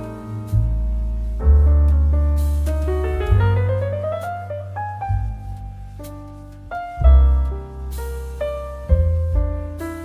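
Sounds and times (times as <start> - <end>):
piano music: 0.0 - 10.0.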